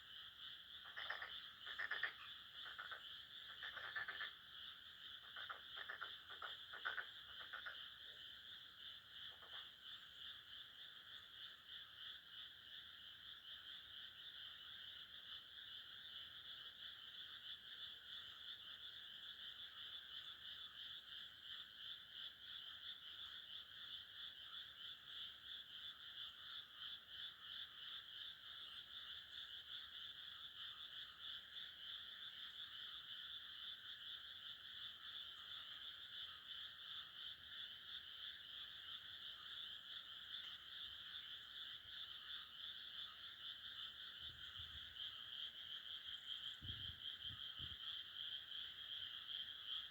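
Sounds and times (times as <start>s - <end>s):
chorus of frogs croaking: 0.0s - 49.9s.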